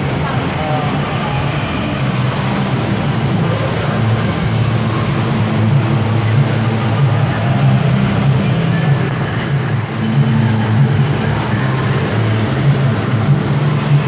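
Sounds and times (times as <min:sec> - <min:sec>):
steady low drone: 0:00.0 - 0:14.0
swimmers splashing: 0:00.0 - 0:14.0.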